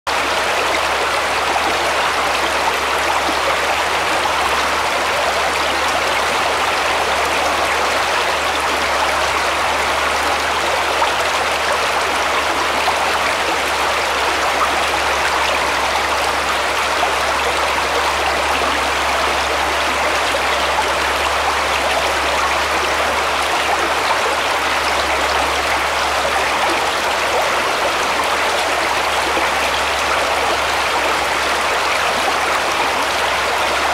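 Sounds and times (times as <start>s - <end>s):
brook flowing over stones: 0.1s - 33.9s.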